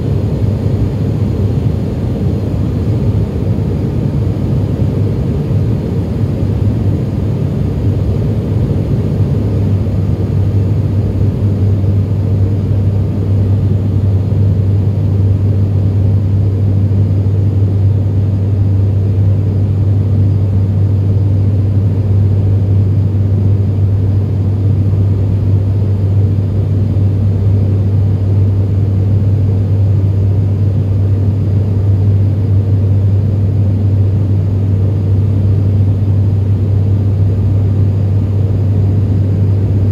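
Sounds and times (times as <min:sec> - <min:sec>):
propeller aircraft cabin drone: 0:00.0 - 0:39.9.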